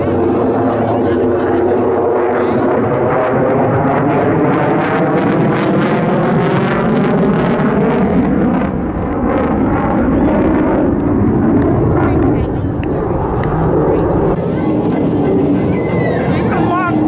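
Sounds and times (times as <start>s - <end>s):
jet engine afterburner rumble: 0.0s - 17.0s.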